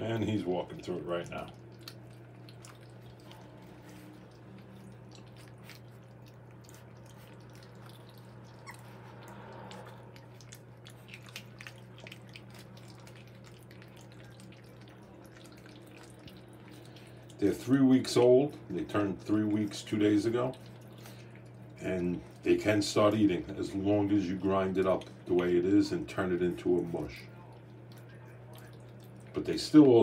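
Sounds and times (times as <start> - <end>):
puppies lapping food: 0.0 - 30.0
steady low hum: 0.0 - 30.0.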